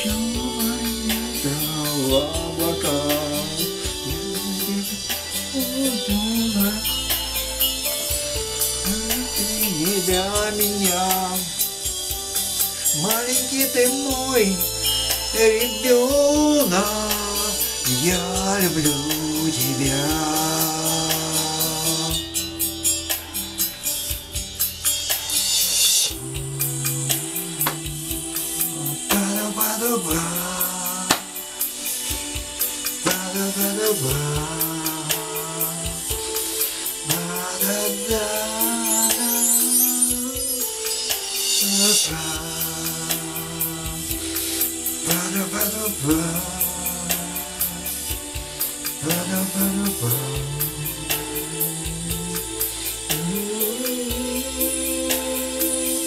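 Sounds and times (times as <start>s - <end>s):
pop backing track: 0.0s - 56.0s
rising hiss: 0.0s - 56.0s.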